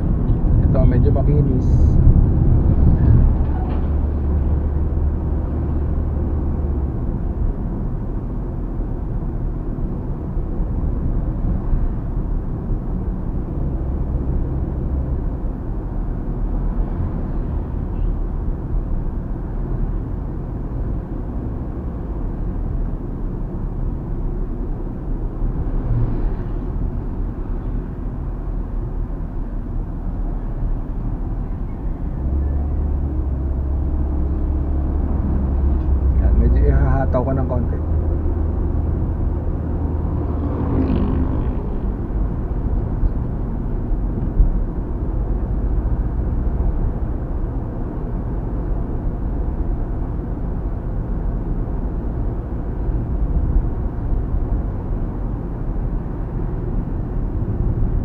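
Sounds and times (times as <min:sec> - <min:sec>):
low engine hum: 0:00.0 - 0:58.0
road and tyre noise: 0:00.0 - 0:58.0.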